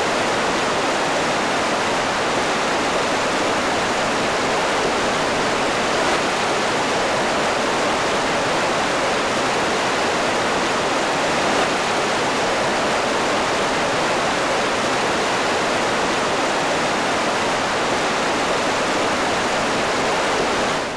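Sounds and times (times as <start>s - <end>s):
river rushing over rocks: 0.0s - 20.9s.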